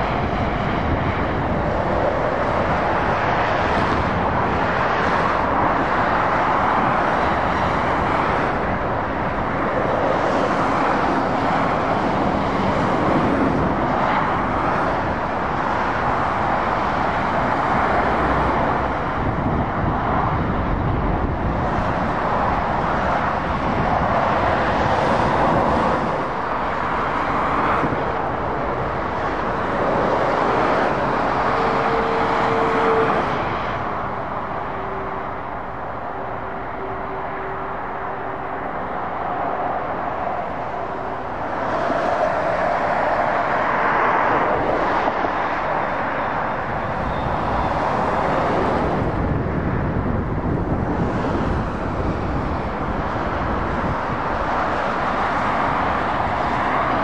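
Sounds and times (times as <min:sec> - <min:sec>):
vehicles passing on wet road: 0:00.0 - 0:57.0.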